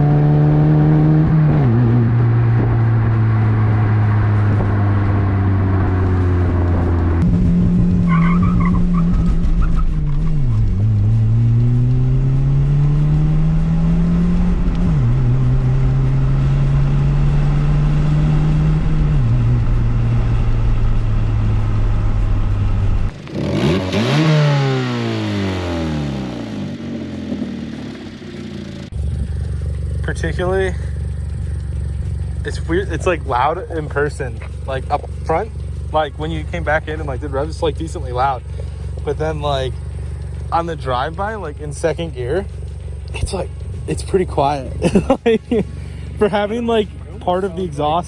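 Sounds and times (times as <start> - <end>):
car engine accelerating through gears: 0.0 - 48.0.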